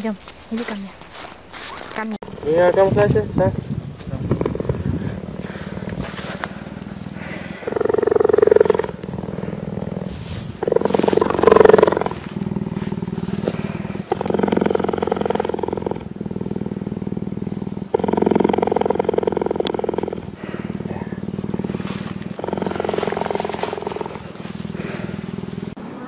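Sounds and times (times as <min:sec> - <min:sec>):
animal rasping vocal sound: 0:02.2 - 0:25.8.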